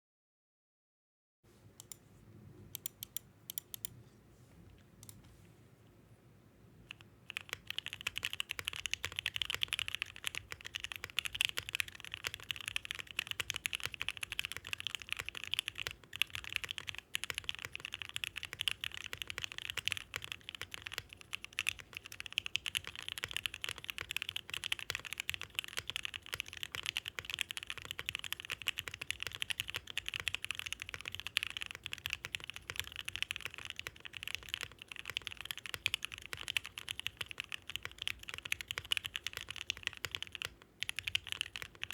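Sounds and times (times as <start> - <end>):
mechanical keyboard typing: 6.9 - 41.9.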